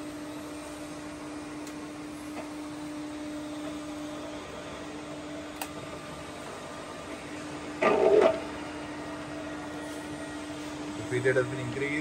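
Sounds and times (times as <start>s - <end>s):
milling machine hum: 0.0s - 12.0s.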